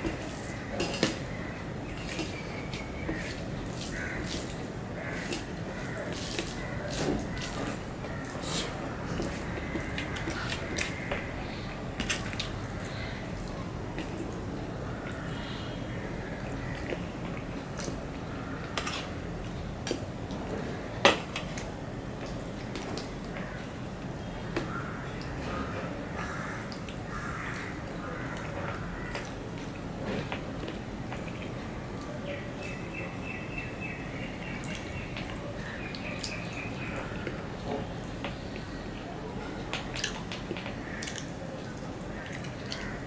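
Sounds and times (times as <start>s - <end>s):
hand squishing curry and rice: 0.0s - 43.0s.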